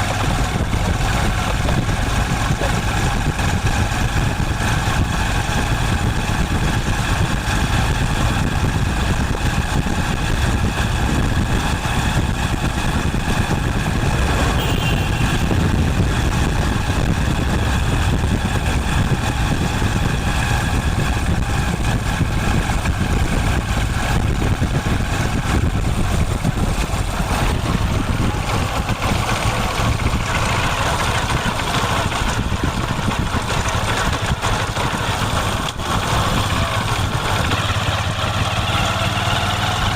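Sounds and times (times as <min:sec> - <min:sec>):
motorcycle engine idling: 0:00.0 - 0:39.7.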